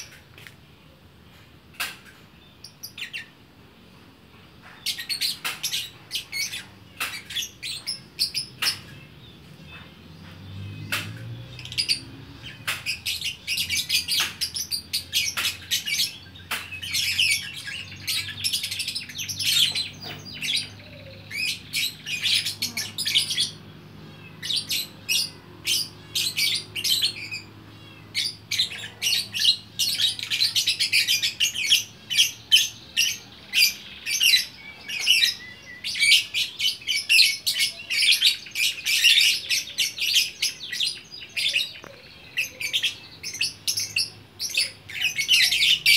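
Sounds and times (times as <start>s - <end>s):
lovebird chirping and chattering: 4.6s - 9.9s, 10.8s - 45.9s.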